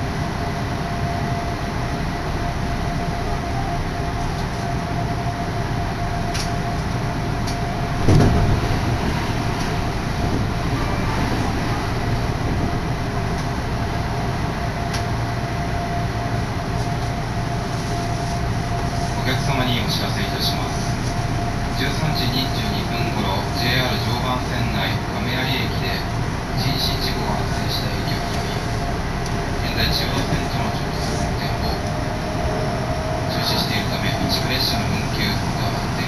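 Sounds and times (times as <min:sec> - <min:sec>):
passing train noise surge: 0:00.0 - 0:36.0
train rumbling inside car: 0:00.0 - 0:36.0.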